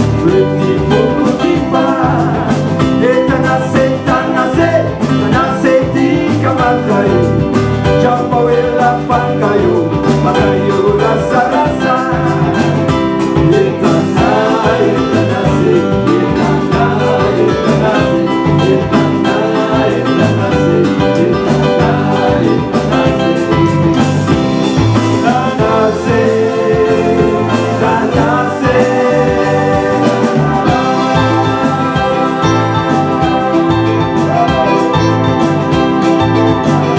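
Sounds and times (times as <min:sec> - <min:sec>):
instrumental band music: 0:00.0 - 0:36.9.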